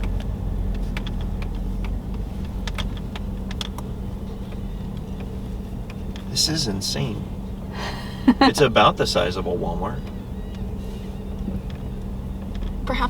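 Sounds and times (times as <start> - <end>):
constant hum: 0.0 - 13.0
engine and road rumble: 0.0 - 13.0.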